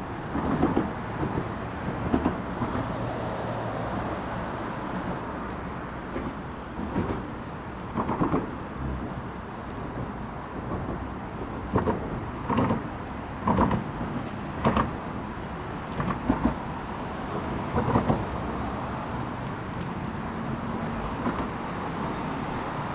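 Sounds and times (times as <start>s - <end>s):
low rumble of passing cars: 0.0s - 22.9s
vehicles thumping on bridge: 0.1s - 3.9s, 4.8s - 22.9s.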